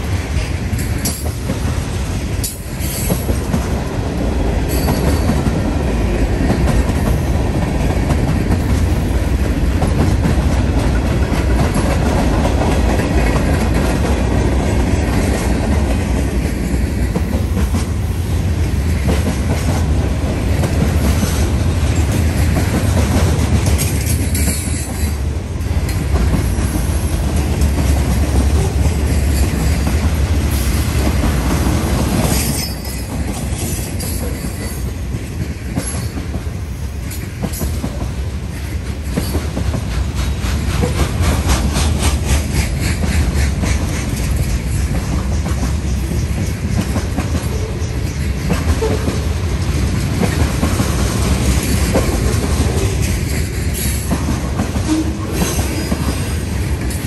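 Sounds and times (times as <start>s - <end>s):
low train rumble: 0.0s - 57.0s
train wheels clicking over rail joints: 0.0s - 57.0s.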